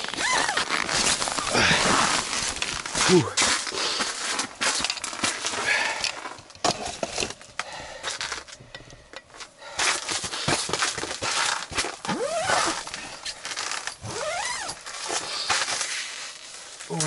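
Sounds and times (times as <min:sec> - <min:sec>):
winter clothing rustling: 0:00.0 - 0:07.0, 0:09.4 - 0:17.0.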